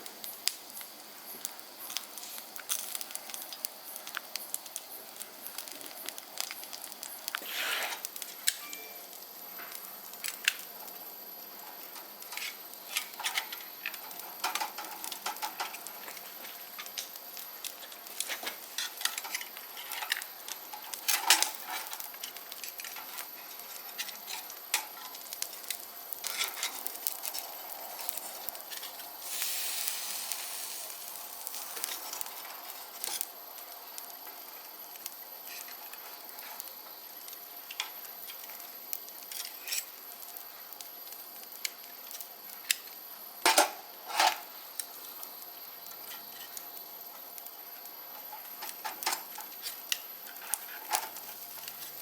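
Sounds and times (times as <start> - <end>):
crackles and clicks: 0.0 - 52.0
food sizzling on a grill: 0.0 - 52.0.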